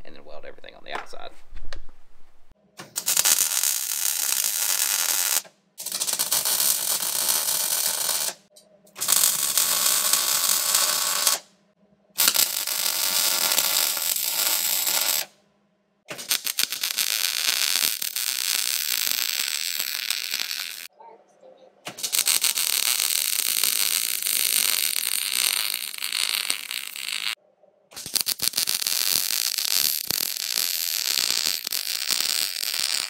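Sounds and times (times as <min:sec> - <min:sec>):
welder arc crackling: 0:02.8 - 0:11.5, 0:12.2 - 0:15.3, 0:16.1 - 0:20.9, 0:21.9 - 0:27.4, 0:28.0 - 0:33.0.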